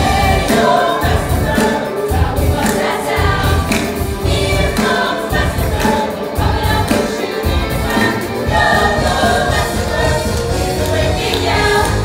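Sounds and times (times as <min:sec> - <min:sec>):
band with heavy pulsing bass: 0:00.0 - 0:02.6, 0:03.2 - 0:12.0
ensemble voices singing: 0:00.0 - 0:12.0.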